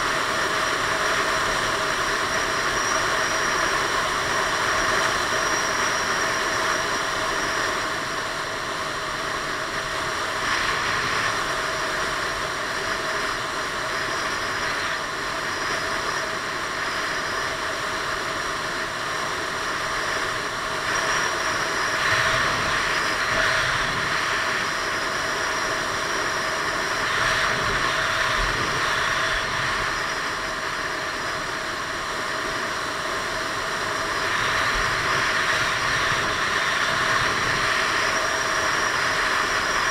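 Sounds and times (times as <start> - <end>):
scooter engine drone: 0.0 - 39.9.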